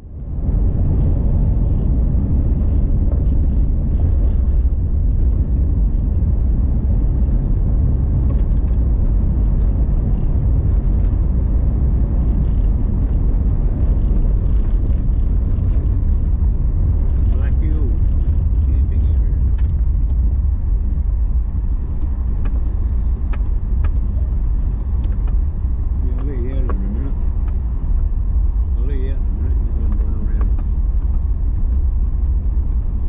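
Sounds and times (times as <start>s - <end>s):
vehicle engine rumble: 0.0s - 33.0s
tyres rumbling on gravel: 0.4s - 33.0s.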